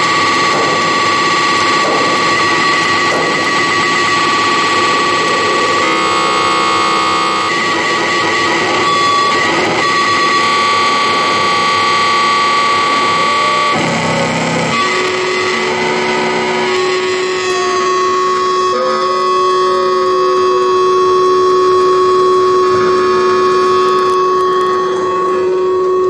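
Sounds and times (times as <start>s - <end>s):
distorted electronic noise music: 0.0s - 26.0s.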